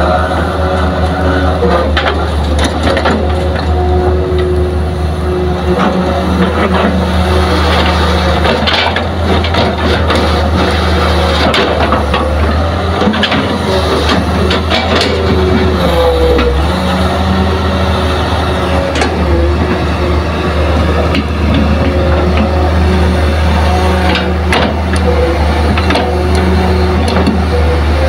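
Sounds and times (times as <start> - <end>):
excavator bucket crunching soil: 0.0 - 4.6, 5.4 - 28.0
diesel engine droning: 0.0 - 28.0.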